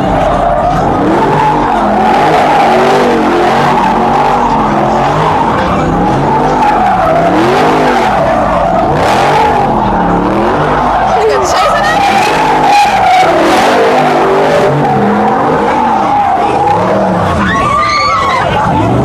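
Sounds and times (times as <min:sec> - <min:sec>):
car engine revving: 0:00.0 - 0:19.0
tyres squealing: 0:00.0 - 0:19.0.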